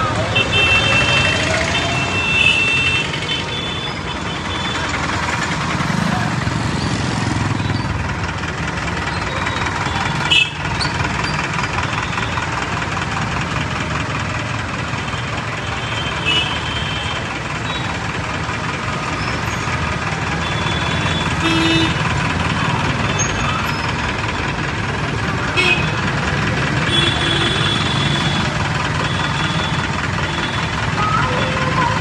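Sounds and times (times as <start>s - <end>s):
vehicle engines din: 0.0s - 32.0s.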